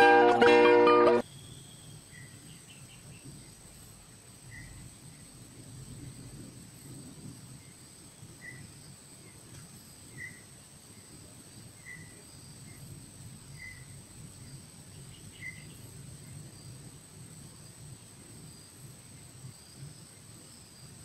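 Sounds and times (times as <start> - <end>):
short insect chirp: 1.2 - 21.0.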